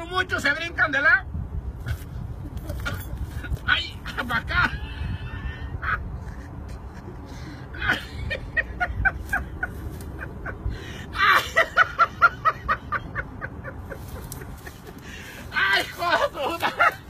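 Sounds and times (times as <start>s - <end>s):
person laughing: 2.4s - 17.0s.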